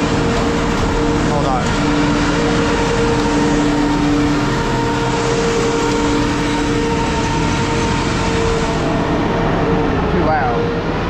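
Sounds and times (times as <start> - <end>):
heavy machinery humming: 0.0 - 11.0.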